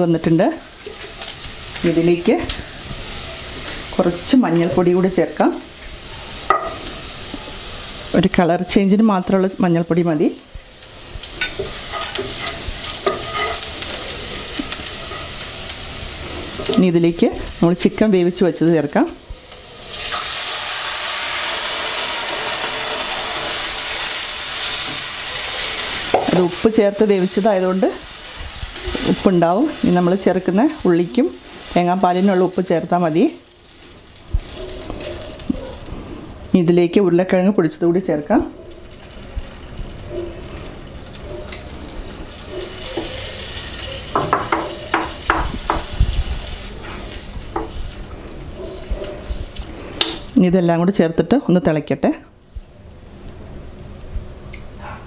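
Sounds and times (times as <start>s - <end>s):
liquid sizzling in hot oil: 0.0s - 50.5s
steady hiss from pot: 0.0s - 51.0s.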